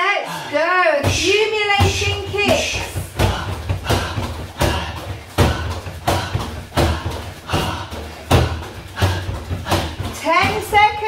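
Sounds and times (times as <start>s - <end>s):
kicks thudding on punch bag: 1.0s - 11.0s.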